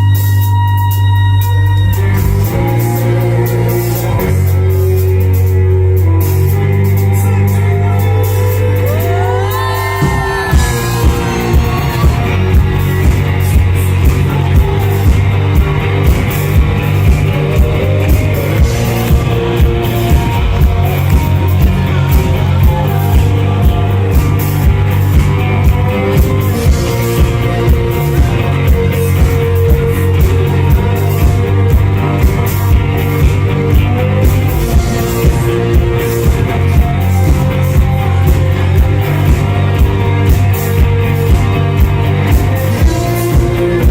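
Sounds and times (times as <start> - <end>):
guitars: 0.0 - 43.9
person singing: 6.2 - 43.9
steady drum beat: 8.3 - 43.9.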